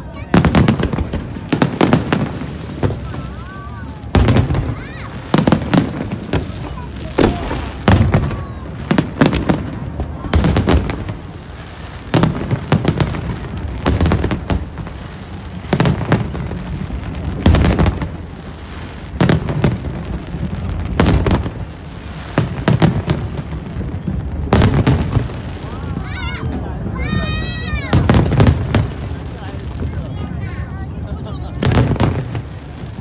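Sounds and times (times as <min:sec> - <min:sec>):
fireworks bursting bangs: 0:00.0 - 0:33.0.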